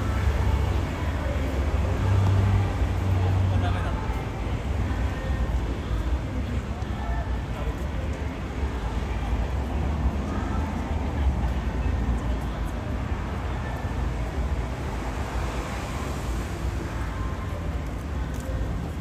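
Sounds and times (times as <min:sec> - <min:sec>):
murmur of people talking: 0:00.0 - 0:19.0
traffic rumble: 0:00.0 - 0:19.0.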